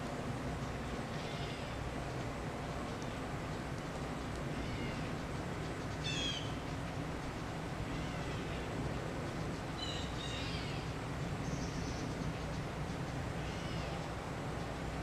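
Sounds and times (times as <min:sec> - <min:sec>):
low background rumble: 0:00.0 - 0:15.0
birds chirping: 0:00.6 - 0:15.0.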